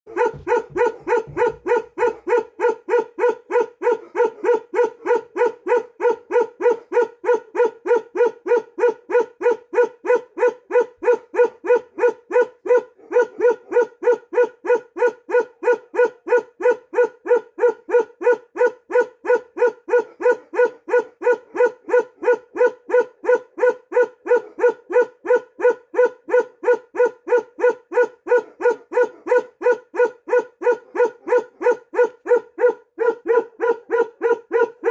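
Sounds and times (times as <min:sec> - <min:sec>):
dog barking: 0:00.1 - 0:34.9.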